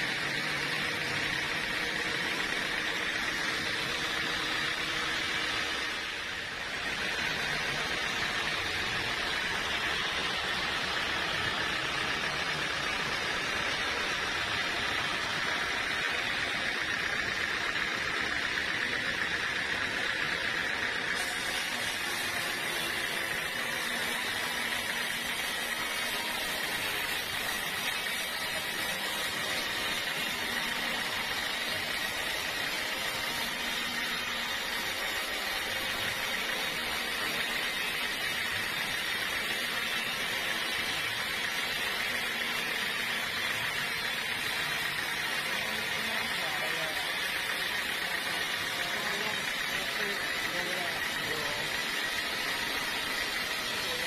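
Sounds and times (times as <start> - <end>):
sawmill saw whirring: 0.0 - 54.0.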